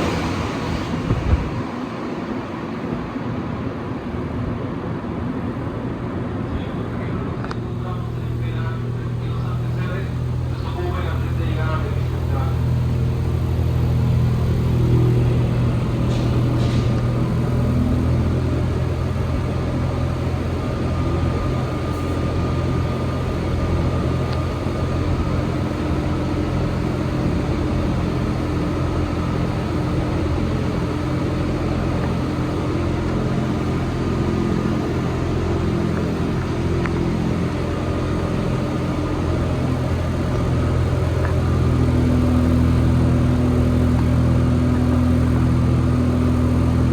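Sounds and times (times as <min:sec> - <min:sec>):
metro train low rumble: 0:00.0 - 0:46.9.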